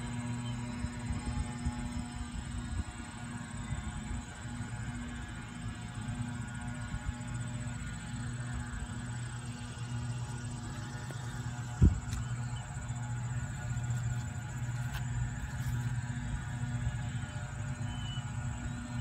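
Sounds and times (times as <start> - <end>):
low buzzing hum: 0.0 - 19.0.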